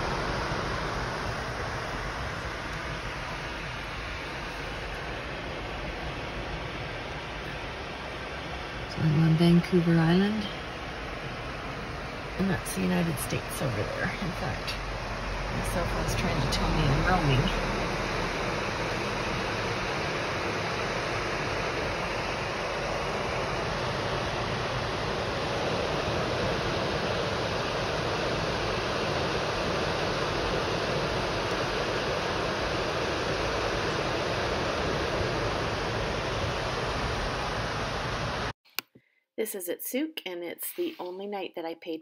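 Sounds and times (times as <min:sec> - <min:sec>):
ocean surf breaking: 0:00.0 - 0:38.5.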